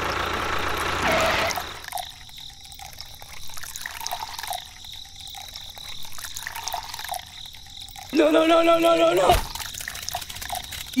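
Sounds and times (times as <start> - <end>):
water splashing and trickling: 1.5 - 11.0.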